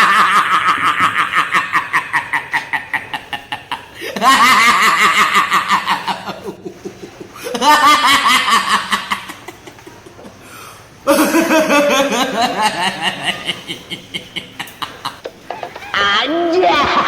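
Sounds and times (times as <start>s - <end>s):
person laughing: 0.0s - 10.5s, 11.1s - 17.0s.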